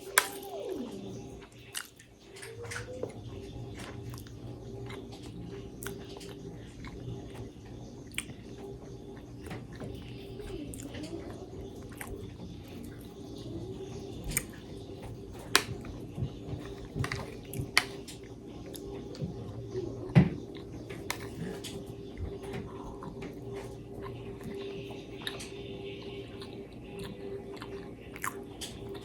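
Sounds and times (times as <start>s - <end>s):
person chewing food: 0.0s - 13.4s, 14.1s - 29.0s
faint steady hum: 0.0s - 29.0s.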